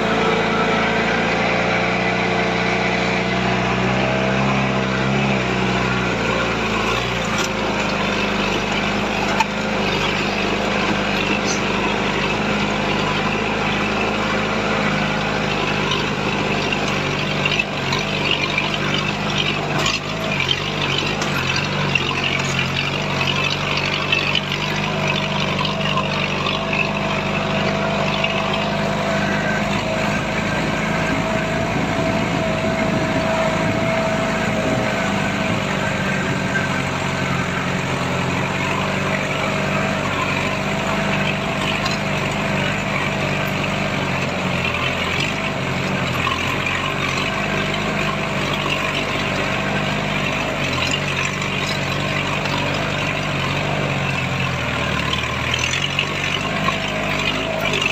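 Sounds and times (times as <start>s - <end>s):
vehicle engine at low revs: 0.0s - 57.9s.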